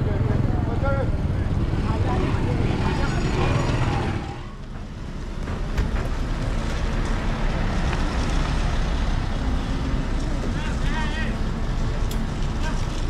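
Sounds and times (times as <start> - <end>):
road vehicle noise: 0.0 - 13.0.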